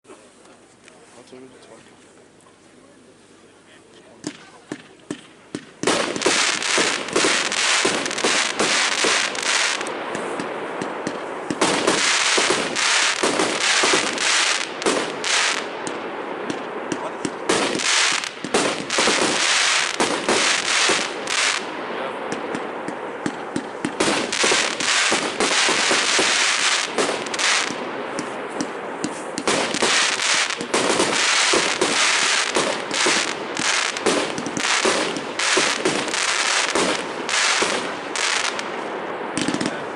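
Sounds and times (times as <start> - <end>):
fireworks bangs and crackling: 4.1 - 39.9.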